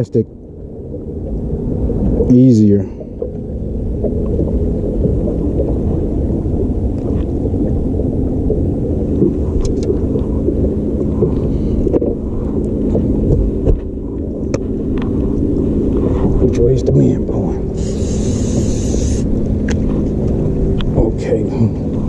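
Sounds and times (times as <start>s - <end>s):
low hum: 0.0s - 22.0s
wind buffeting microphone: 0.0s - 22.0s.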